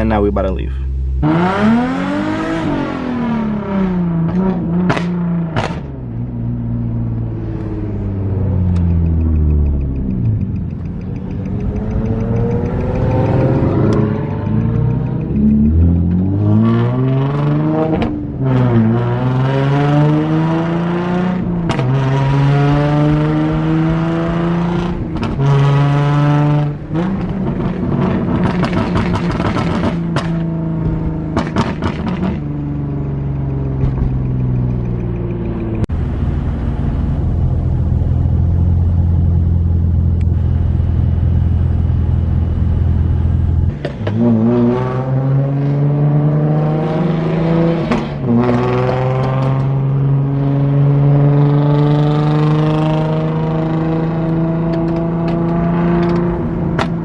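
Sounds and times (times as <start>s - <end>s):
car engine accelerating through gears: 1.1s - 57.0s.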